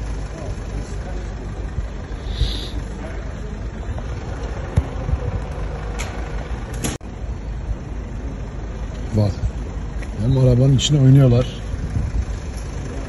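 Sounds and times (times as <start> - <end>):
idling vehicles rumbling: 0.0 - 13.0.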